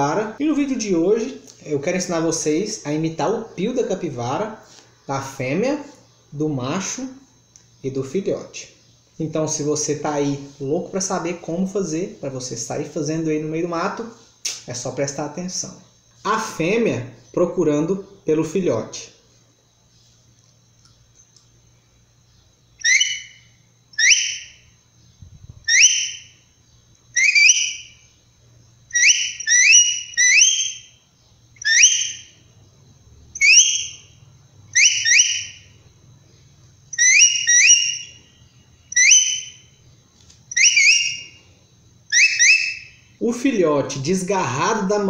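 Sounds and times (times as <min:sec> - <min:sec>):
high rising whistled chirps: 0:00.0 - 0:45.0.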